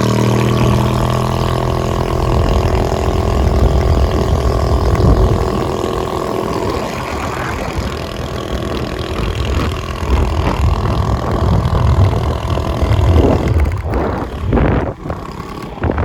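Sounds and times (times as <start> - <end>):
scooter engine running: 0.0 - 16.0.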